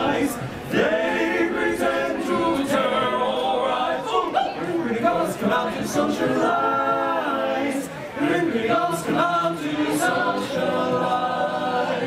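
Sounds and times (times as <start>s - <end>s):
group singing a cappella: 0.0s - 12.0s.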